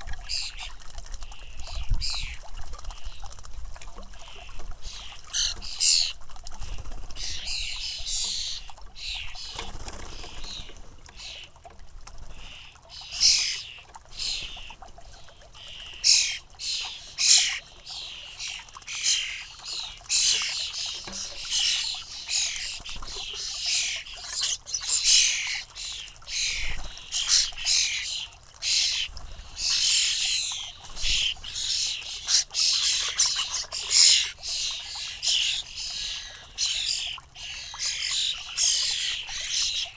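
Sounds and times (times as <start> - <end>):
fledglings begging calls: 0.2 - 3.3, 4.2 - 6.2, 6.8 - 11.6, 12.2 - 39.9.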